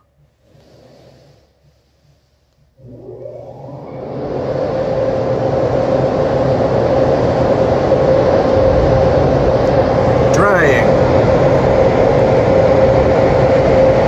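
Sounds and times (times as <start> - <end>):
car wash motor running: 0.0 - 14.0
low hum: 0.0 - 14.0.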